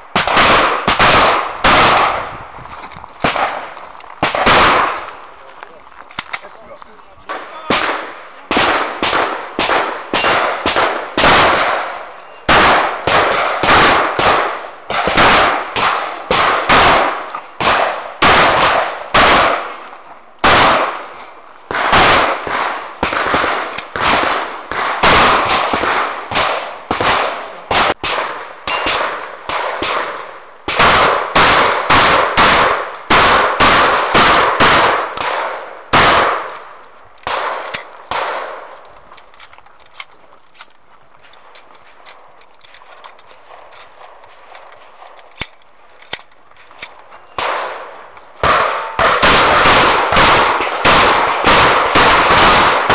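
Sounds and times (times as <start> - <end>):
shotgun shots echoing: 0.0 - 2.4, 3.2 - 39.1, 41.5 - 52.9.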